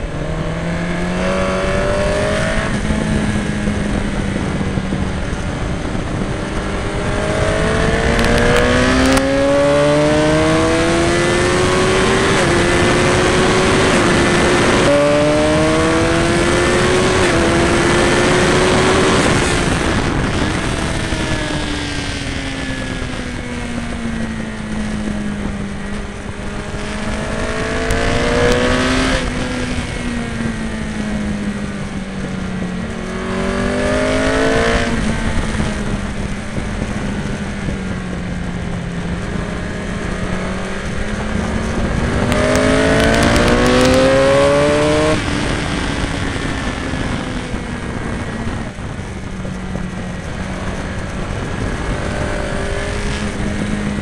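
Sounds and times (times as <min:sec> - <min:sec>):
sportbike engine revving: 0:00.0 - 0:54.0
wind rush on microphone: 0:00.0 - 0:54.0.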